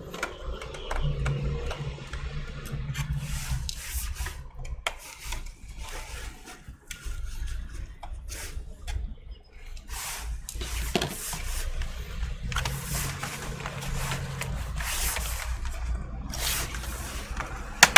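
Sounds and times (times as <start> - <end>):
plastic scraping and clicking: 0.0 - 9.9, 10.5 - 17.9.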